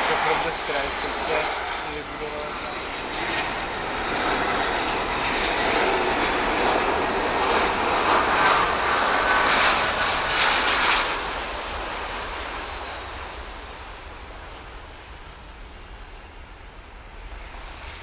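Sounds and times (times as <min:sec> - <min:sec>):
faint engine whine: 0:00.0 - 0:18.0
jet engines passing overhead: 0:00.0 - 0:18.0.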